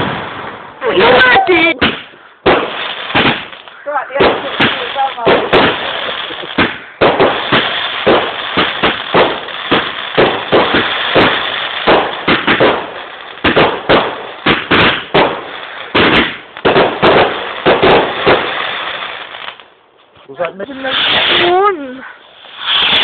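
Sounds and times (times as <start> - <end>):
fireworks bangs: 0.0 - 19.6, 20.5 - 23.0
fireworks crackle: 0.0 - 23.0.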